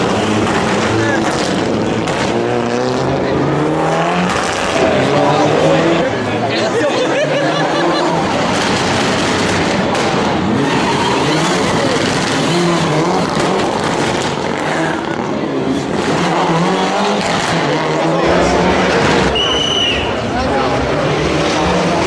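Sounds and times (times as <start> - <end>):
rally car engine running hard: 0.0 - 22.0.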